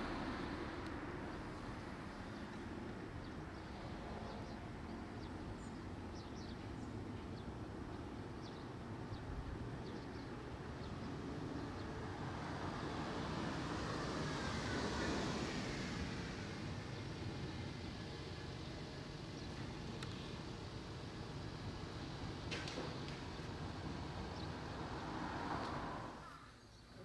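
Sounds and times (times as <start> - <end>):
vehicle rumbling: 0.0 - 26.3.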